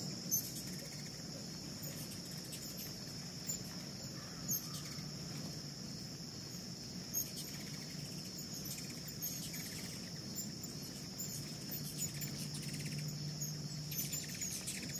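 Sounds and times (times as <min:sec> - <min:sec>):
crickets chirping: 0:00.0 - 0:14.9
hummingbirds chittering: 0:00.0 - 0:14.9.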